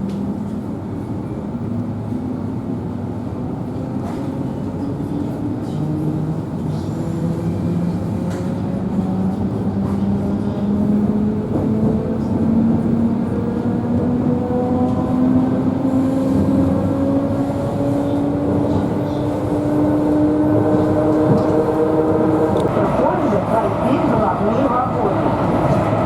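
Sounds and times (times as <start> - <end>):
wheels rumbling on rails: 0.0 - 26.0.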